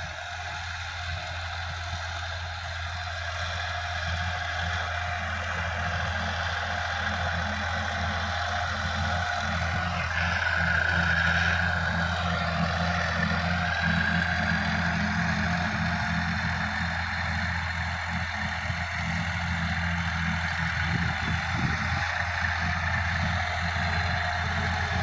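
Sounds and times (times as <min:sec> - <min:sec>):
rotary tiller churning soil: 0:00.0 - 0:25.0
tractor diesel engine running: 0:00.0 - 0:25.0.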